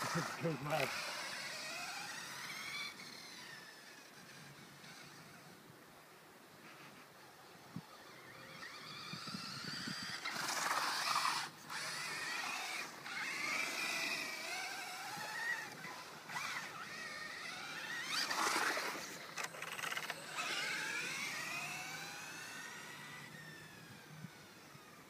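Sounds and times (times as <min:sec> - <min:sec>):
electric motor whining: 0:00.0 - 0:05.6, 0:07.7 - 0:25.0.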